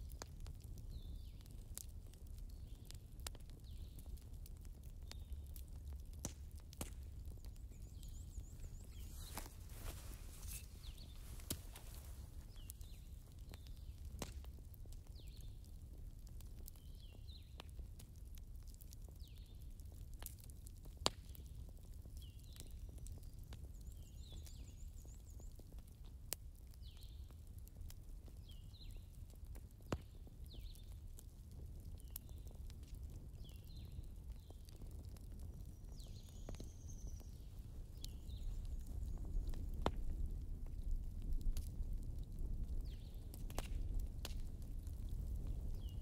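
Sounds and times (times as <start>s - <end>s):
recorded fireplace crackling: 0.0s - 23.8s, 25.4s - 46.0s.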